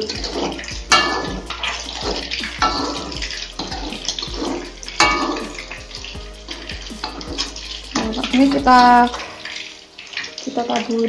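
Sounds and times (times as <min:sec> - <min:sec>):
metal spatula scraping a wok: 0:00.0 - 0:10.4
sauce sloshing in a wok: 0:00.0 - 0:10.6.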